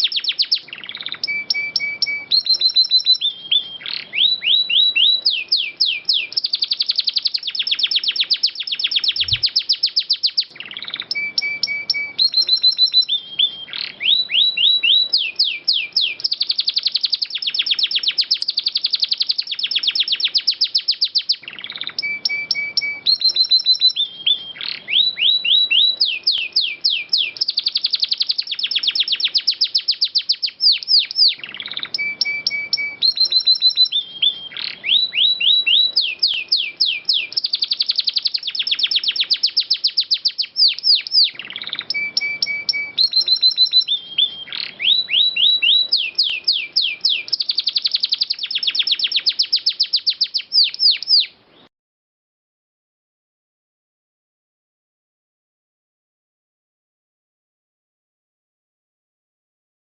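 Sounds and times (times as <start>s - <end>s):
canary singing trills: 0.0s - 51.7s.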